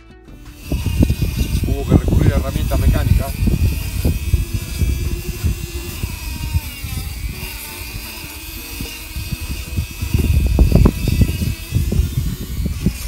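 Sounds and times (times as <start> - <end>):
motorized dental float whining: 0.5 - 13.0.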